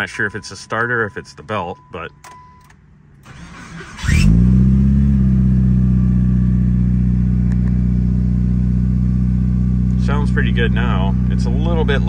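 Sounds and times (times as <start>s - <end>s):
car engine starting and idling: 2.2s - 12.0s.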